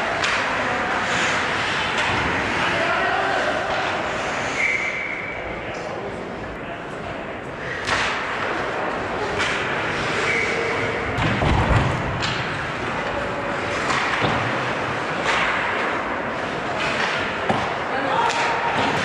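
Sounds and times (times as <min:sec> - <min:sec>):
hockey sticks and puck clacking: 0:00.0 - 0:05.9, 0:07.5 - 0:19.0.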